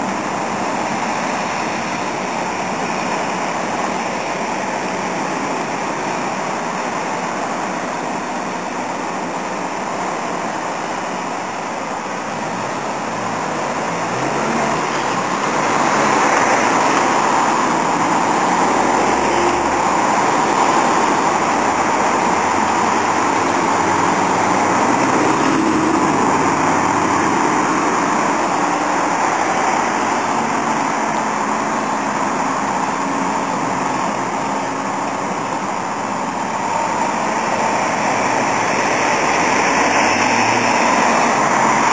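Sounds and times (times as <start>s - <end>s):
traffic engines and tyres: 0.0s - 41.9s.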